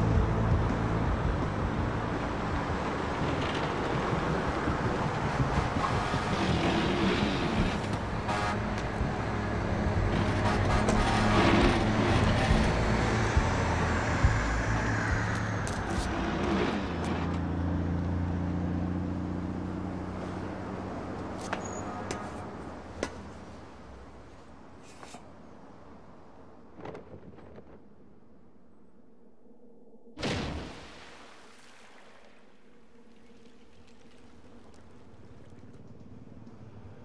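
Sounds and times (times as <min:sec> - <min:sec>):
cars and trucks passing: 0:00.0 - 0:29.0, 0:32.7 - 0:37.0.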